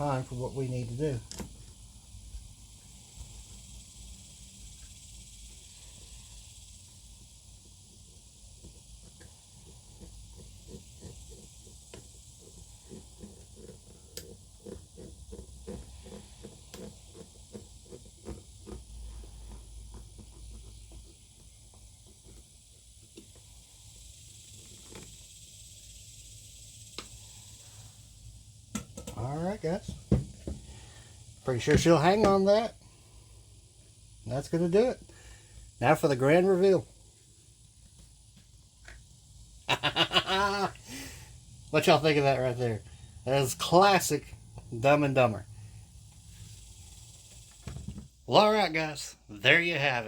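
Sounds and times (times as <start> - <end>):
steady hiss: 0.0 - 50.0.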